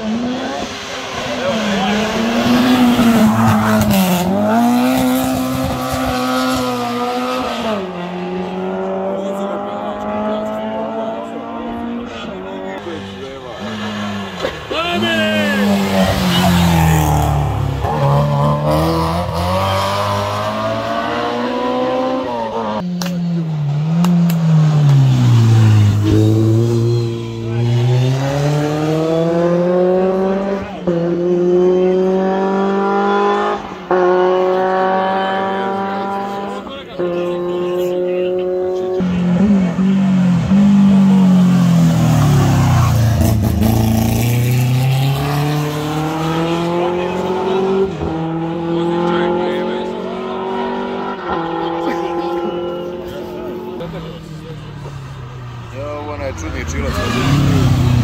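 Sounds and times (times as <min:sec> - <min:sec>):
racing car accelerating: 0:00.0 - 0:58.0.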